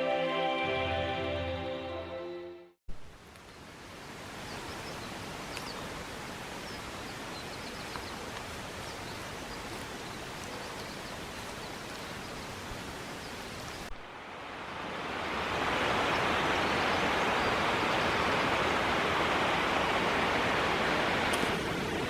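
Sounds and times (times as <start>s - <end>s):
water rushing: 2.9s - 22.0s.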